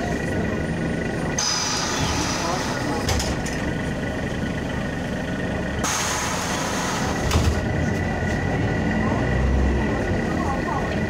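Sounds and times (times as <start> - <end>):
bus engine rumble: 0.0 - 11.0
tyres on wet road: 0.0 - 11.0.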